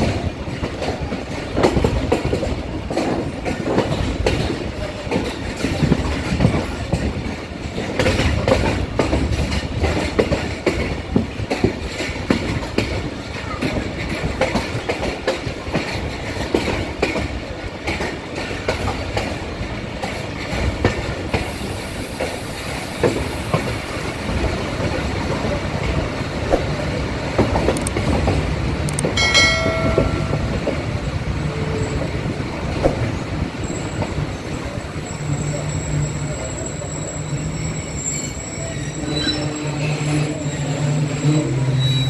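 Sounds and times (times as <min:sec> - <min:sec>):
train wheels clattering over rails: 0:00.0 - 0:42.0.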